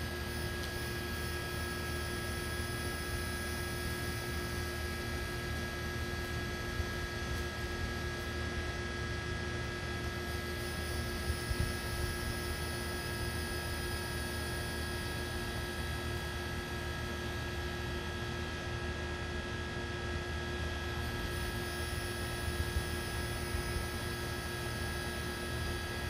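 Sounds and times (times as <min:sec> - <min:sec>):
electrical hum with hiss: 0:00.0 - 0:26.0.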